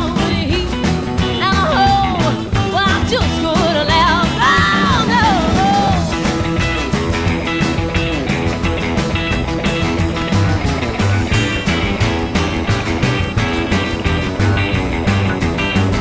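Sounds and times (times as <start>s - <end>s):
rockabilly band playing live: 0.0s - 16.0s.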